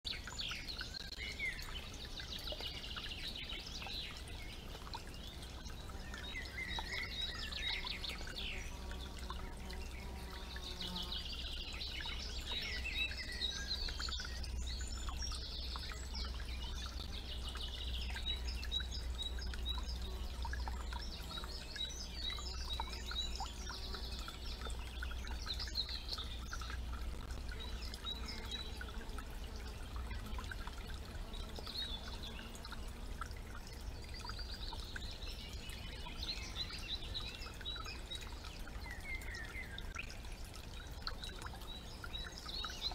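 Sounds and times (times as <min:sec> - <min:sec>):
songbirds singing and calling: 0:00.1 - 0:42.9
trickle of water: 0:00.1 - 0:42.9.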